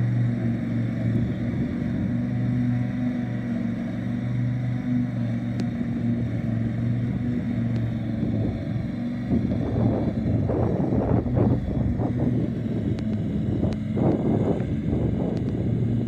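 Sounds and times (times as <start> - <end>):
ride-on mower humming: 0.0 - 16.0.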